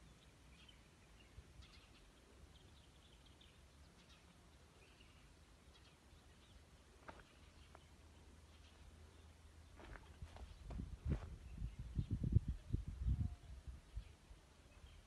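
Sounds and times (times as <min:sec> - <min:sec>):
faint bird chirps: 0:00.0 - 0:10.7, 0:11.4 - 0:15.0.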